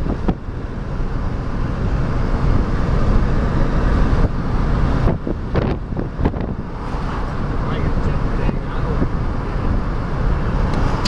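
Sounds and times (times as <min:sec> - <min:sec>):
vehicle rumble from inside cab: 0:00.0 - 0:11.0.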